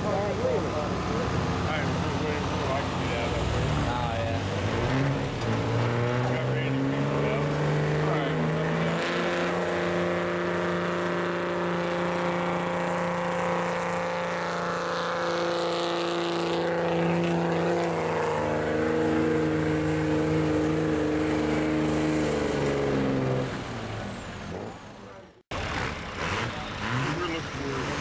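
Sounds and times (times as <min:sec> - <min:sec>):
diesel pickup engine under load: 0:00.0 - 0:28.0.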